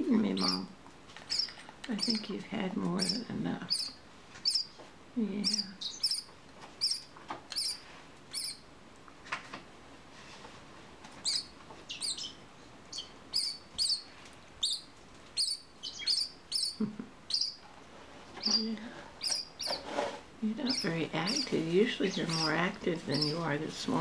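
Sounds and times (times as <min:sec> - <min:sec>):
parakeet chick chirping: 0:00.2 - 0:04.8, 0:05.4 - 0:08.7, 0:11.2 - 0:17.6, 0:18.4 - 0:19.9, 0:20.6 - 0:24.0.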